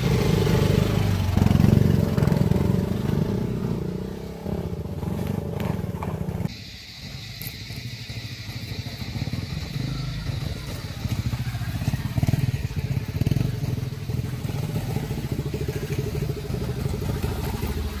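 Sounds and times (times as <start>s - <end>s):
motorcycle engines on gravel: 0.0s - 6.5s, 7.2s - 18.0s.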